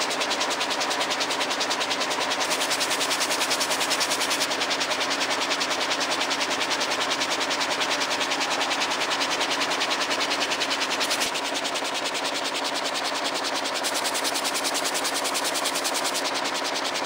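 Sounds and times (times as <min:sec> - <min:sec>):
loom clattering fast: 0:00.1 - 0:17.0.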